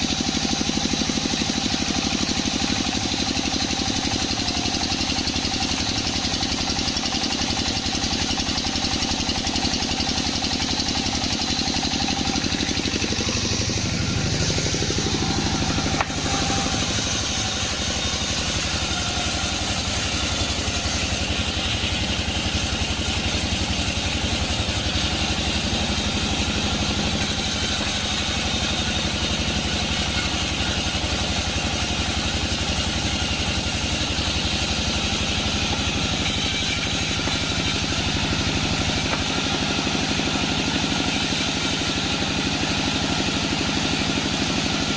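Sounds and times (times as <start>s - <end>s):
sawmill machinery droning: 0.0s - 44.9s.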